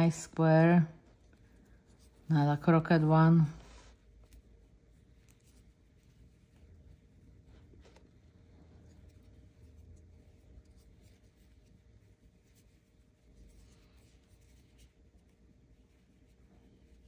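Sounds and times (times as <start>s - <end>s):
low room hum: 0.0s - 17.0s
crochet hook scratching yarn: 1.0s - 17.0s.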